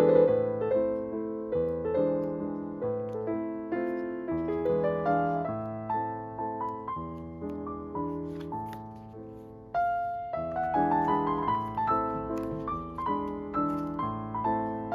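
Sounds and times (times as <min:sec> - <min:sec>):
gentle piano melody: 0:00.0 - 0:14.9.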